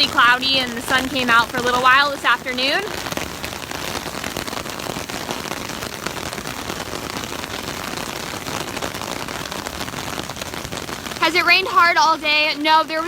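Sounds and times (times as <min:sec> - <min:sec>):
heavy rain on an umbrella: 0:00.0 - 0:13.0.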